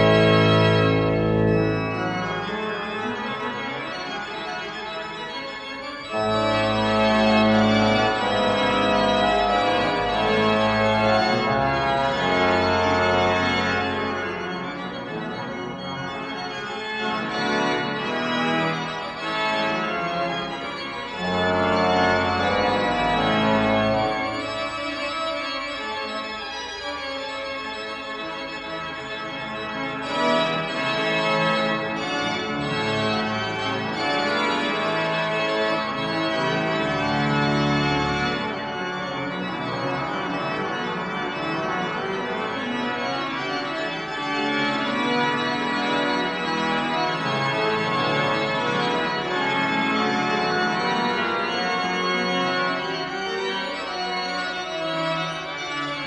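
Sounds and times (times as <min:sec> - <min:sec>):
organ chords: 0:00.0 - 0:56.0.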